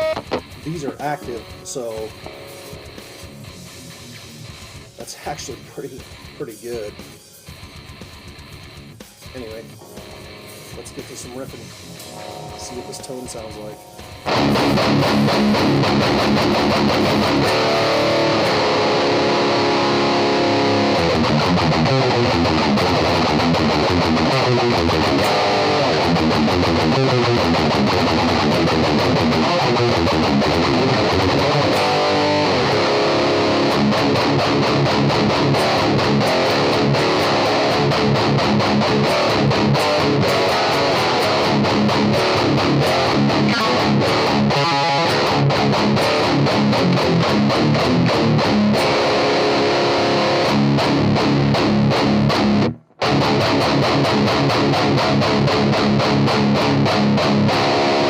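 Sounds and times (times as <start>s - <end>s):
distorted electric guitar riffs: 0.0s - 58.0s.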